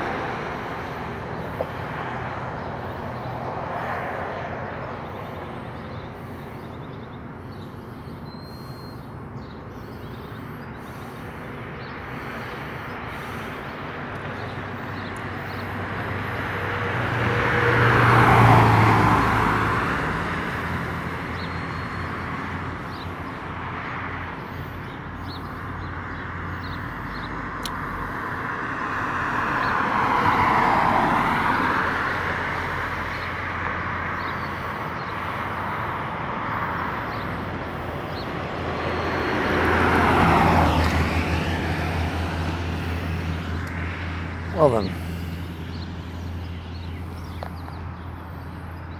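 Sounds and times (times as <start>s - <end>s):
low engine hum: 0.0s - 48.9s
vehicles passing close by: 0.0s - 48.9s.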